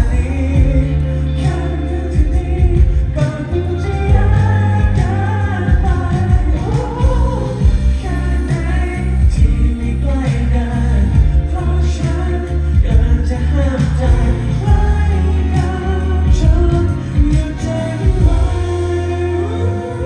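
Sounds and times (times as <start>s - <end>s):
steady drum beat: 0.0s - 19.5s
heavy bass: 0.0s - 20.0s
pop song with singing: 0.0s - 20.0s.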